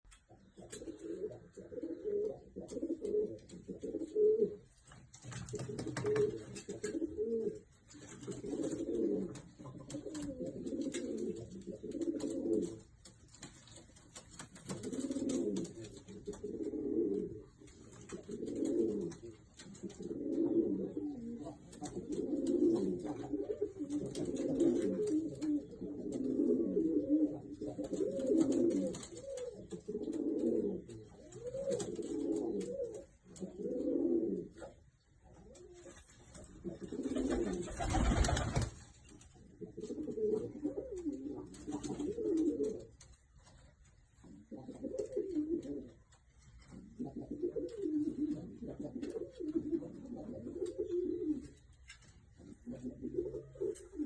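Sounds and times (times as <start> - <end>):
pigeons cooing: 0.4 - 4.7, 5.5 - 12.9, 14.7 - 38.8, 39.4 - 43.0, 44.2 - 46.0, 46.7 - 51.7, 52.4 - 54.0.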